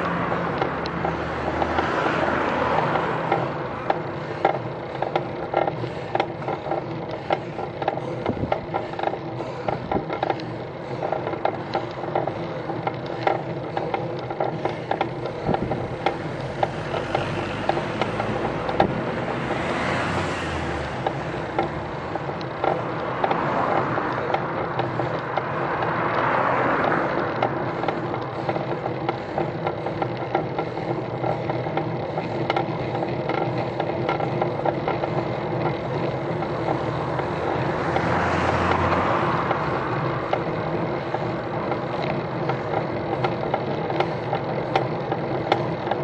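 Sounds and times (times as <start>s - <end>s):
bicycle rattling on tarmac: 0.0s - 46.0s
car passing: 0.0s - 46.0s.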